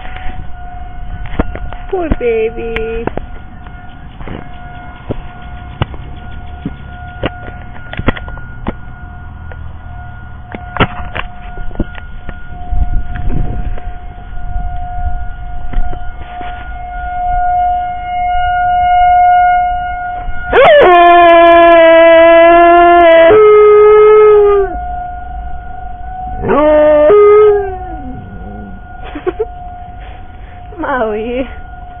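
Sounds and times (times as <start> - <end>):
low rumble: 0.0 - 18.1, 23.9 - 32.0
warning siren wailing: 0.0 - 32.0.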